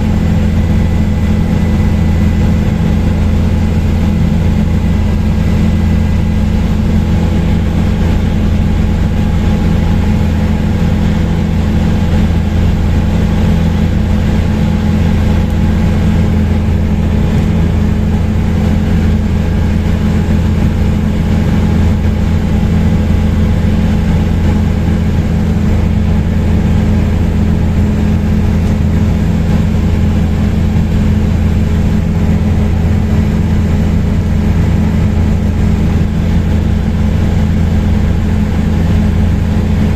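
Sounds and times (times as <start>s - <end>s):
helicopter drone from on board: 0.0s - 39.9s.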